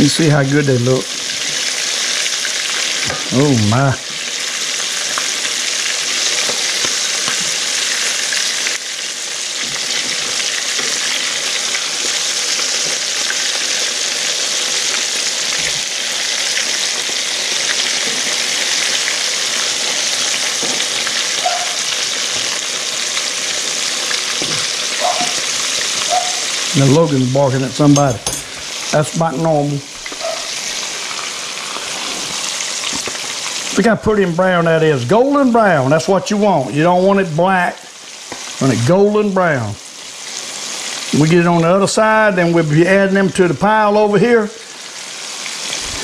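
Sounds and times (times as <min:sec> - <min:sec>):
fish sizzling in hot grease: 0:00.0 - 0:46.0.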